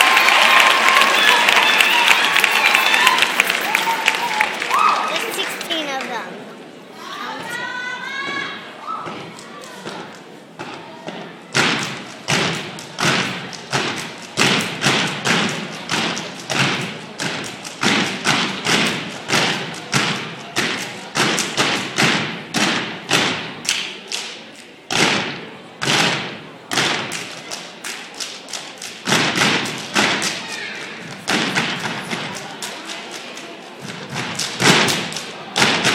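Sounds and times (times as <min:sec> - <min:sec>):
stomps and hand claps: 0:00.0 - 0:06.1, 0:09.0 - 0:35.9.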